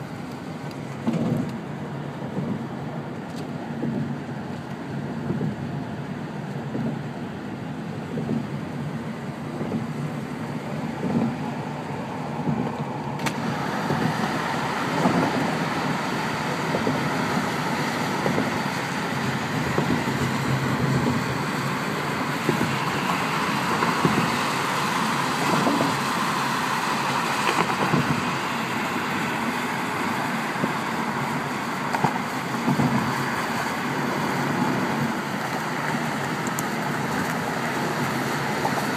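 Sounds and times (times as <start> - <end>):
car tyre and engine rumble: 0.0 - 38.9.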